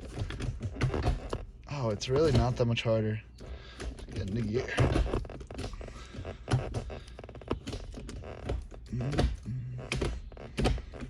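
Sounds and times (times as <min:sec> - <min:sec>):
gear shifter clicks and knocks: 0:00.0 - 0:11.0.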